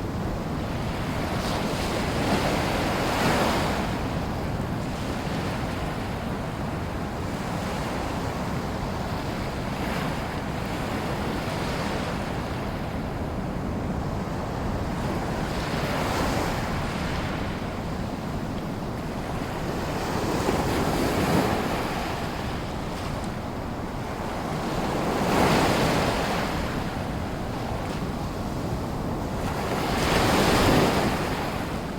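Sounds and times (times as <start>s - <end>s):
wind rumble on microphone: 0.0s - 31.9s.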